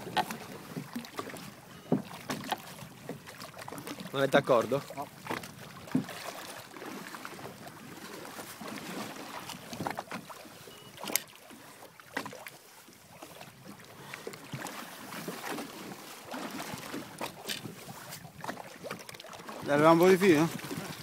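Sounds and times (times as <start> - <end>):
water sloshing against boat: 0.0 - 21.0.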